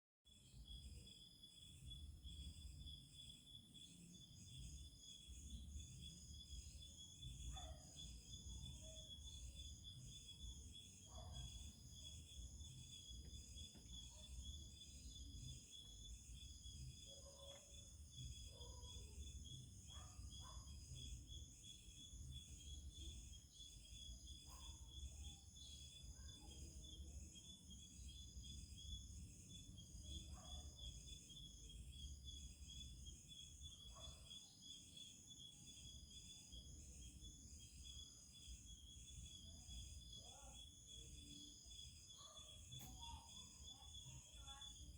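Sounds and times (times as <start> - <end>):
insects trilling: 0.3 - 44.9.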